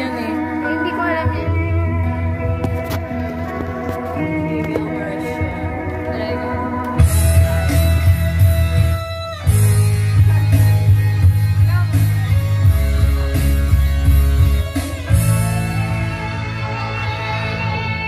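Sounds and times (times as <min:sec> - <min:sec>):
karaoke backing music: 0:00.0 - 0:18.0.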